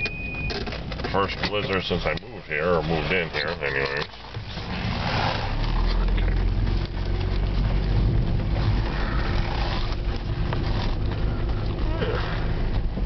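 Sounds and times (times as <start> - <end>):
car engine running: 0.0 - 13.0
tyre and road noise: 0.0 - 13.0.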